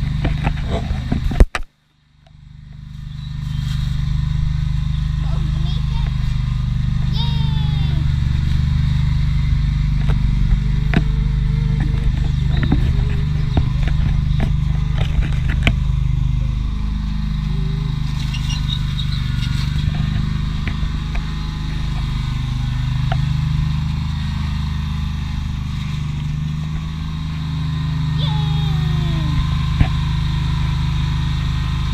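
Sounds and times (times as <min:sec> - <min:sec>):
small tractor engine running: 0:00.0 - 0:31.9.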